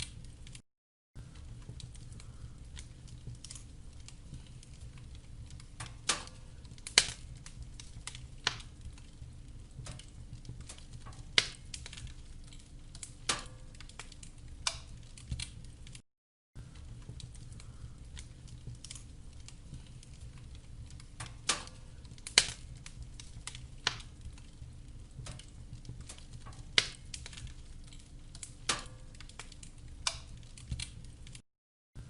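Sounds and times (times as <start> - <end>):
wood fire crackling and popping: 0.0 - 0.6, 1.2 - 16.0, 16.6 - 31.4.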